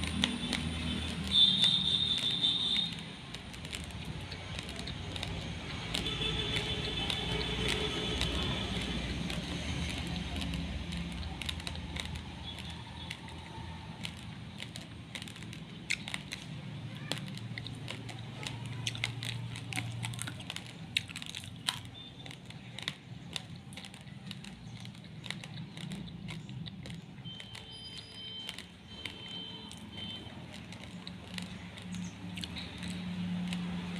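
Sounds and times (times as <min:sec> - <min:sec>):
rice grains crunched between teeth: 0:00.0 - 0:33.9.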